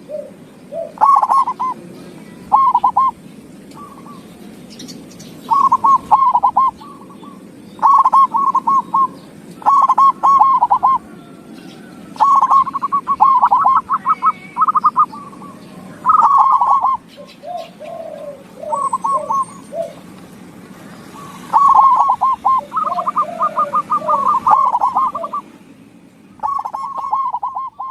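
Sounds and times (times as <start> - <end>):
dove cooing: 0.0 - 25.6, 26.4 - 27.9.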